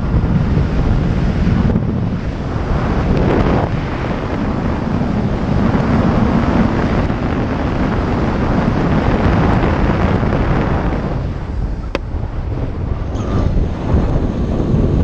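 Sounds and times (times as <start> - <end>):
motorcycle engine running: 0.0 - 15.0
wind rushing on microphone: 0.0 - 15.0.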